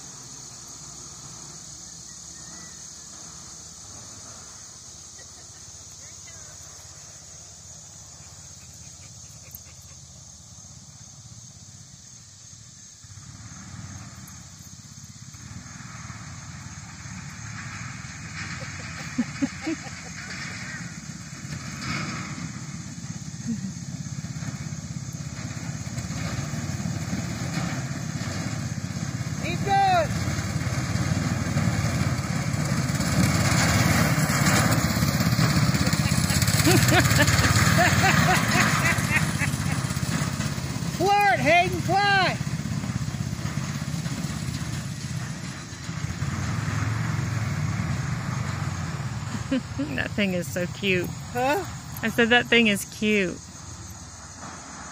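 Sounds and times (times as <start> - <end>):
wheels rushing on dirt: 0.0 - 54.9
go-kart engine running: 3.4 - 54.8.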